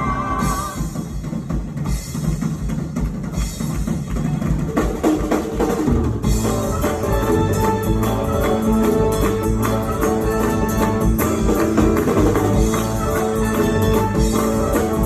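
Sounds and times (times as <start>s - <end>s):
band music: 0.0s - 2.2s, 3.2s - 15.0s.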